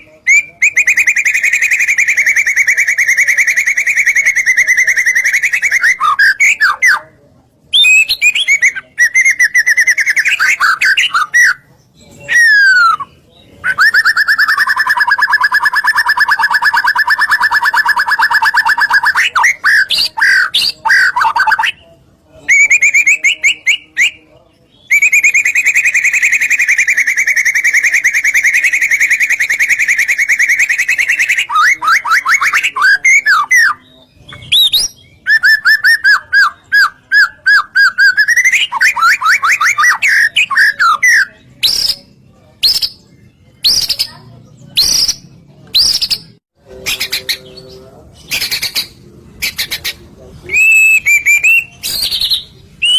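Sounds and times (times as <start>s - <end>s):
songbird singing trills and whistles: 0.0s - 52.9s.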